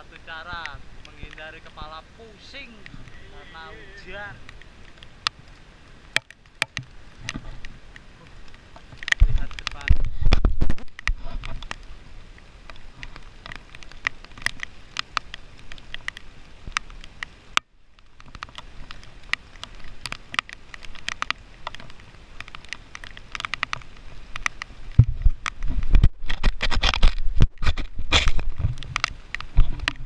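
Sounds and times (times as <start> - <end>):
raindrops pattering: 0.0 - 30.0.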